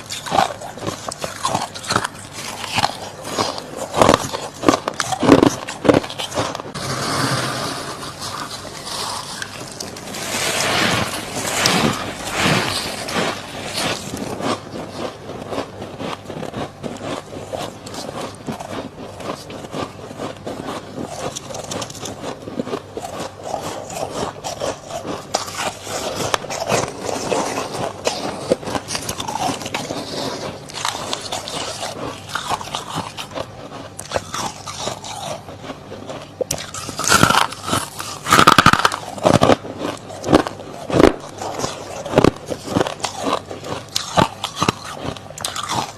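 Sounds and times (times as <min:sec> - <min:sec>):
frost scraping and crunching: 0:00.0 - 0:45.9.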